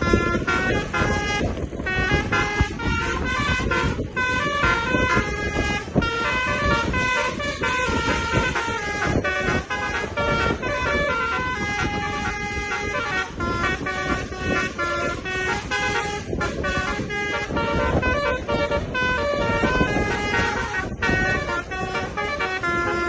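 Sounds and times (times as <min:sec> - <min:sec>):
musical bus horn playing a tune: 0:00.0 - 0:23.0.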